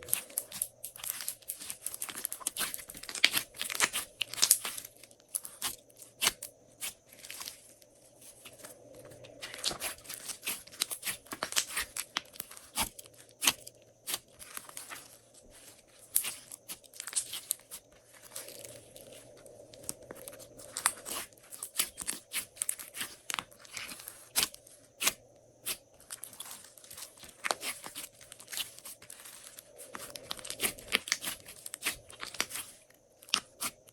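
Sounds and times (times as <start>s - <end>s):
slime crackling: 0.0s - 7.7s, 8.3s - 33.9s.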